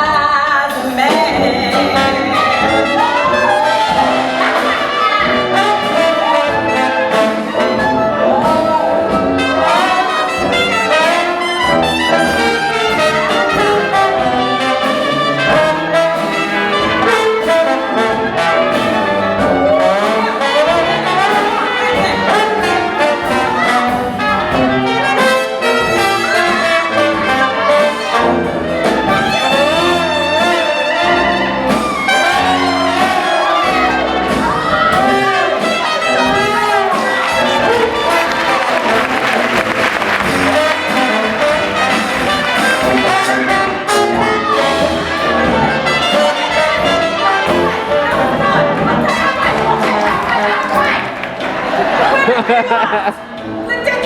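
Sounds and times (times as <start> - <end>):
big-band jazz brass: 0.0 - 54.0.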